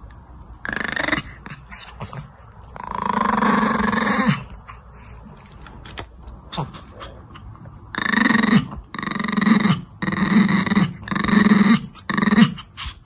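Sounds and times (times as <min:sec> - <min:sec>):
small dog growling: 0:00.6 - 0:05.4, 0:06.4 - 0:13.0.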